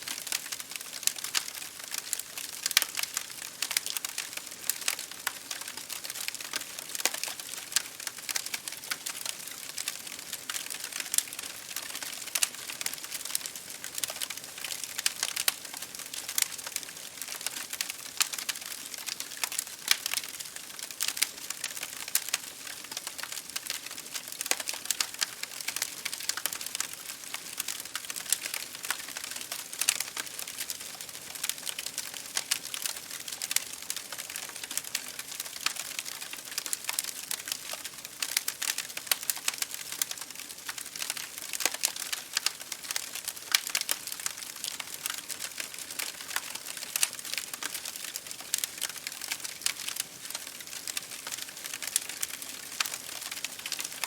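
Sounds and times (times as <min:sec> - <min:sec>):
rain pattering on a window: 0:00.0 - 0:54.0
wood fire crackling: 0:00.0 - 0:54.0.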